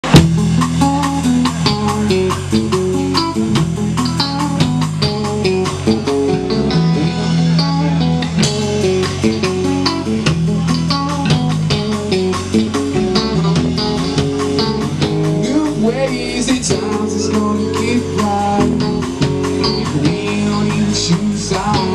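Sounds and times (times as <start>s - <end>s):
bass guitar: 0.0s - 21.9s
drum kit: 0.0s - 21.9s
electric guitar: 0.0s - 21.9s.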